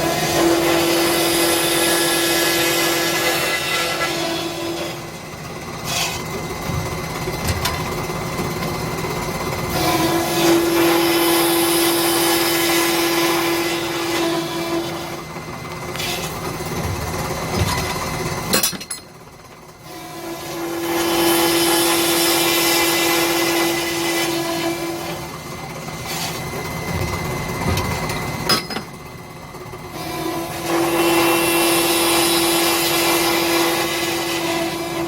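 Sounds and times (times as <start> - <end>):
circular saw machine cutting: 0.0 - 35.0.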